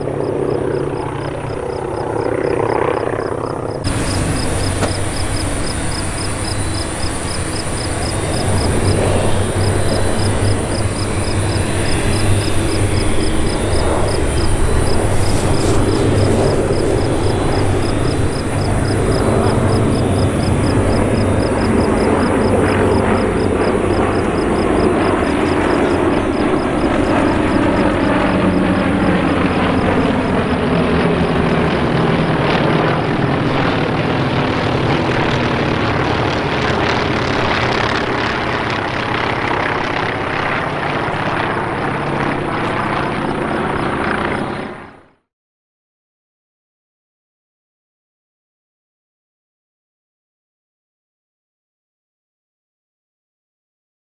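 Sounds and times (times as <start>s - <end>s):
propeller planes droning overhead: 0.0s - 45.3s.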